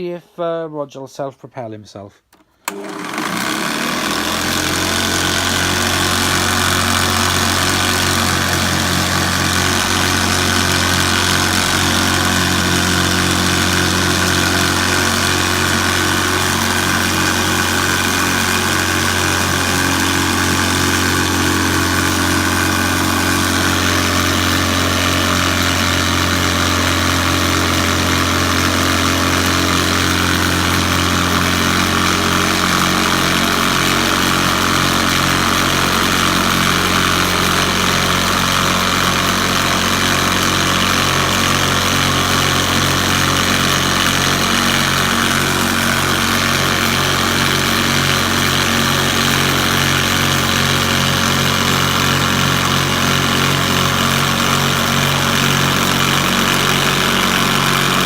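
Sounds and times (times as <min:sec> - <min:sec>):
upright vacuum cleaner running: 0:02.6 - 0:58.0.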